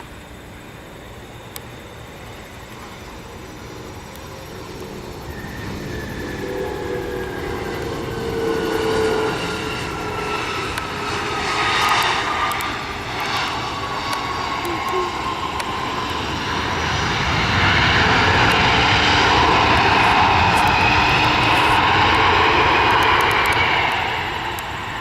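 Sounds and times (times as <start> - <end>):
airplane engines passing: 0.0 - 25.0.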